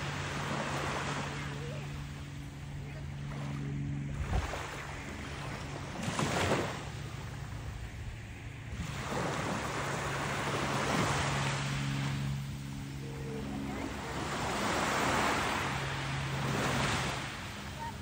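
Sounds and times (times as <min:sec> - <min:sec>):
small waves breaking on beach: 0:00.0 - 0:18.0
steady low hum: 0:00.0 - 0:18.0.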